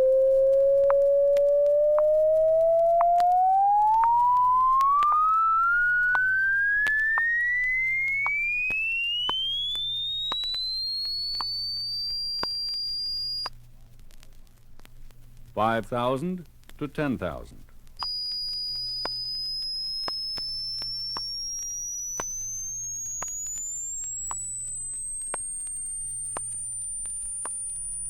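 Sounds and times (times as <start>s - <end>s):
rising test tone sweep: 0.0s - 13.5s, 18.0s - 28.0s
record surface clicks: 0.6s - 15.2s, 17.7s - 28.0s.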